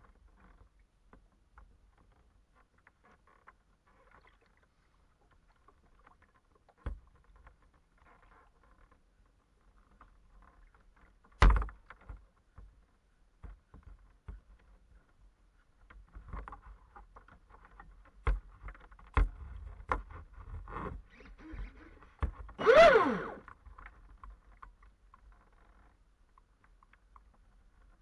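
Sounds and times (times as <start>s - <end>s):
water sloshing inside hull: 0.0s - 28.0s.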